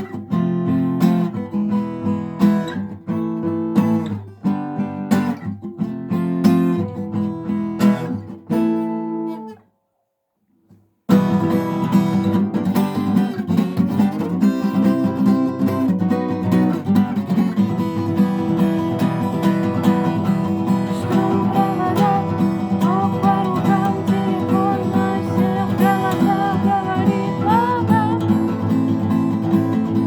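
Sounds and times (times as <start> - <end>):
acoustic guitar strumming: 0.0 - 9.6, 11.1 - 30.0.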